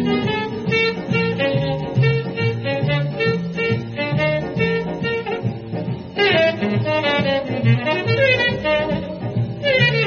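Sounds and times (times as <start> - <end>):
swing jazz orchestra: 0.0 - 10.0.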